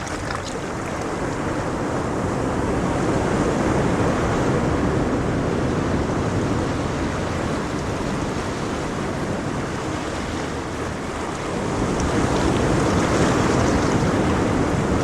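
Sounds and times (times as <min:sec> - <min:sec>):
ocean surf washing: 0:00.0 - 0:15.0.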